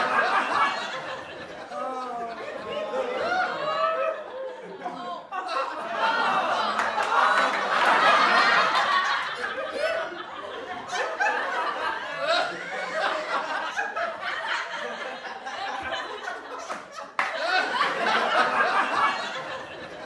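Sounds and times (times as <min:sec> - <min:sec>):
group of people laughing: 0:00.0 - 0:20.0.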